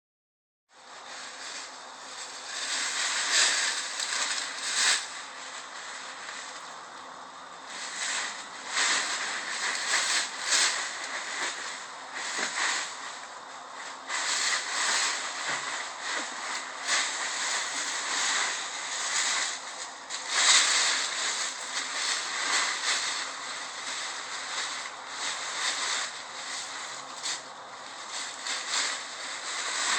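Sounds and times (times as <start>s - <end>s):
dry leaves rustling and crunching: 0.8s - 29.9s.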